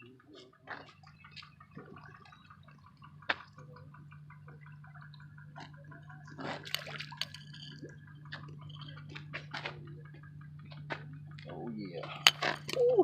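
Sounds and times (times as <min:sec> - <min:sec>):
steady low hum: 0:00.0 - 0:13.0
water dripping and splashing: 0:00.0 - 0:13.0.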